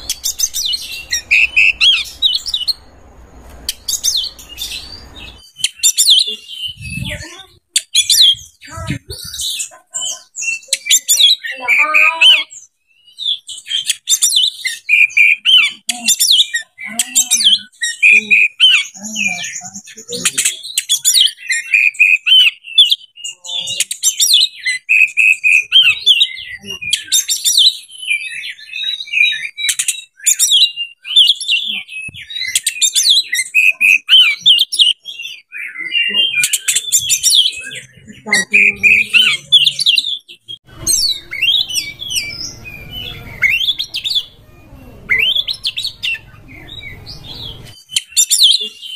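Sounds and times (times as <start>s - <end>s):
bird singing whistles and chatter: 0.0s - 2.8s, 3.7s - 48.9s.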